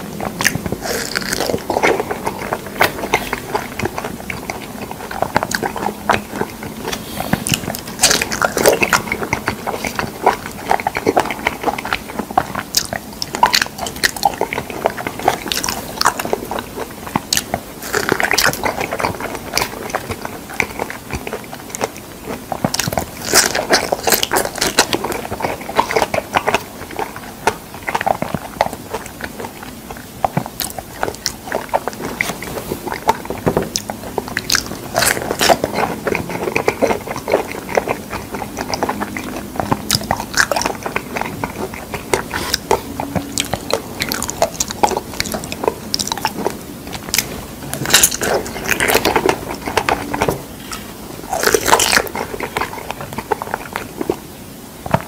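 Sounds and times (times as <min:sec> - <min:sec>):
person chewing figs: 0:00.0 - 0:55.0.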